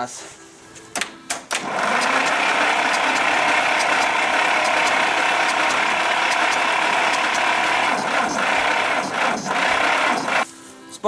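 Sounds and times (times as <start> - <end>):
engine cranked by starter: 1.5 - 10.5.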